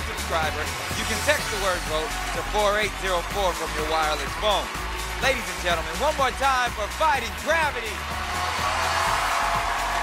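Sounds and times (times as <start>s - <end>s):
audience cheering and applauding: 0.0s - 10.0s
show music with bass line: 0.0s - 10.0s.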